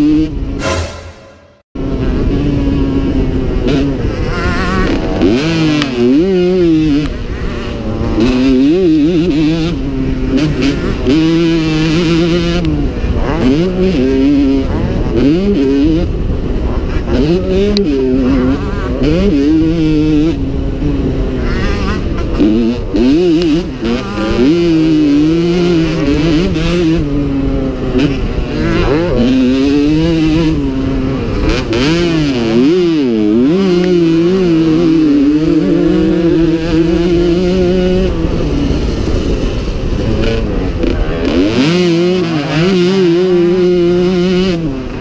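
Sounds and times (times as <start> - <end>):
two-stroke motorcycle engine racing: 0.0 - 45.0.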